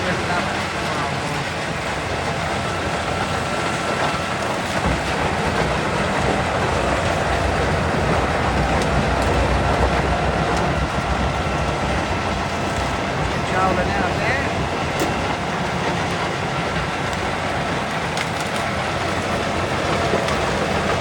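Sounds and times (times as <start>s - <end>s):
wood chipper chipping wood: 0.0s - 21.0s.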